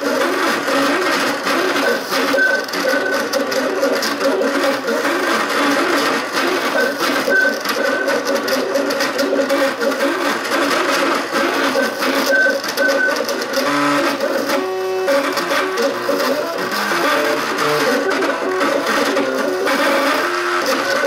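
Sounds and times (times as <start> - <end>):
steady mechanical whir: 0.0 - 21.0.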